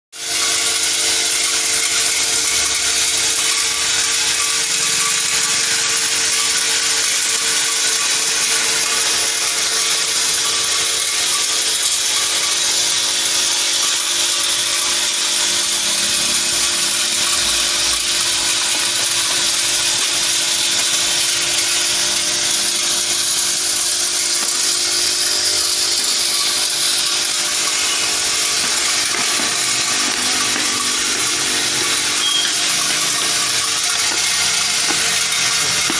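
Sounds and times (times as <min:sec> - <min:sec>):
small metal pins rattling: 0:00.2 - 0:35.9
vibratory feeder hum: 0:00.2 - 0:35.9.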